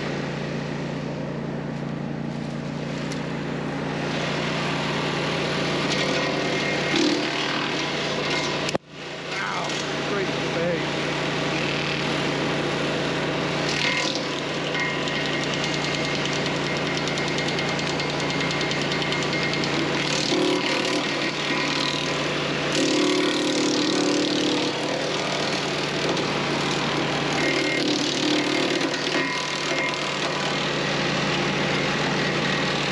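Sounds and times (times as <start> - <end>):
wood chipper engine running: 0.0 - 32.9.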